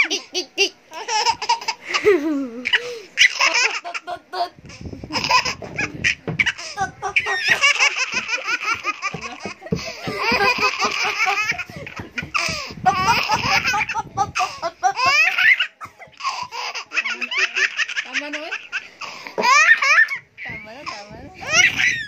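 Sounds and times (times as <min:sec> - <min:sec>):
child laughing hard: 0:00.0 - 0:18.6, 0:21.4 - 0:22.0.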